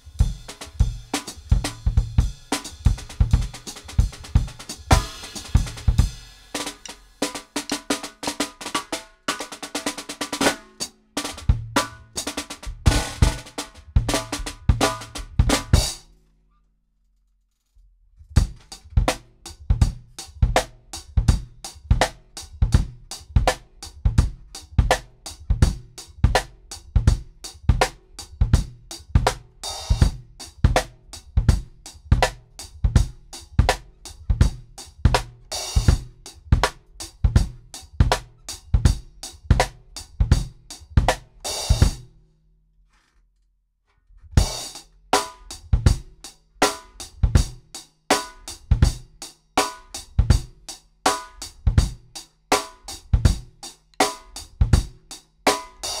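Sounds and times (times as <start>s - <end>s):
bass drum and snare groove: 0.0s - 16.1s, 18.3s - 42.2s, 44.4s - 56.0s.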